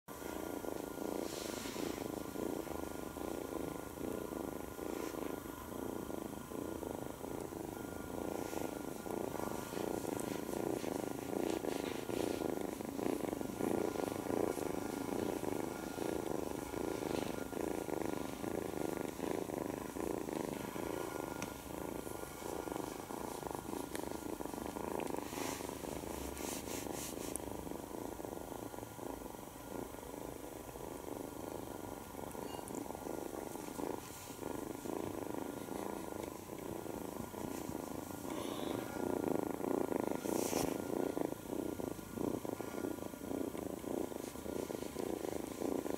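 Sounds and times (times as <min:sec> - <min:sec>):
kitten purring: 0:00.0 - 0:45.9.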